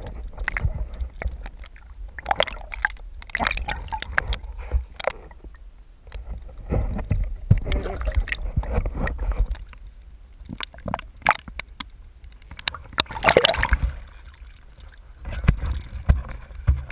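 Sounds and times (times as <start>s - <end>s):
water sloshing and bubbling: 0.0s - 16.9s.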